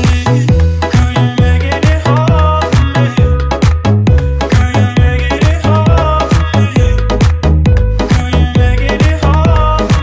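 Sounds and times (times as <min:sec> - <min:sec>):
electronic dance music: 0:00.0 - 0:10.0
heavy bass beat: 0:00.0 - 0:10.0.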